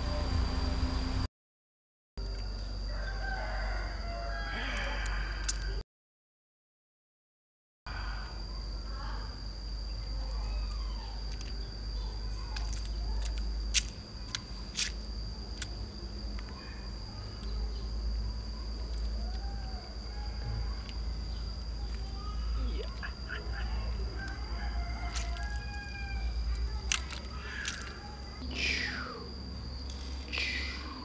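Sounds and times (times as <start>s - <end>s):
high-pitched insect drone: 0.0s - 1.3s, 2.2s - 5.8s, 7.9s - 31.0s.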